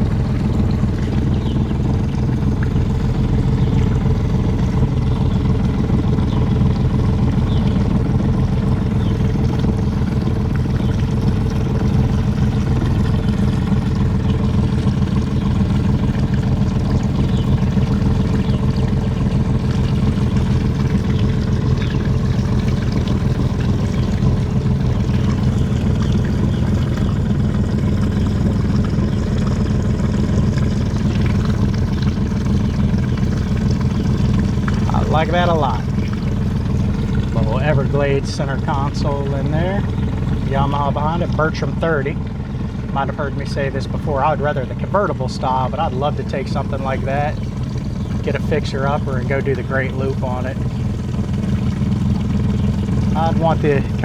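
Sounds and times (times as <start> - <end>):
motorboat engine humming: 0.0 - 54.0.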